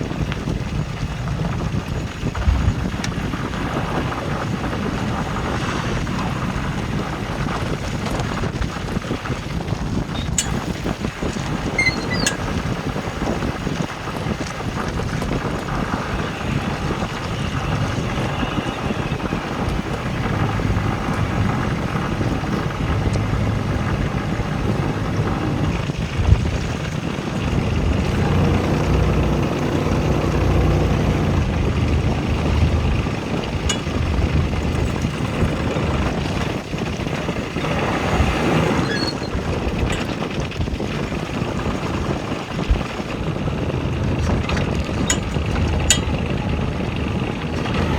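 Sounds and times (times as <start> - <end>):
boat engine running: 0.0 - 47.9
wind buffeting microphone: 0.0 - 47.9.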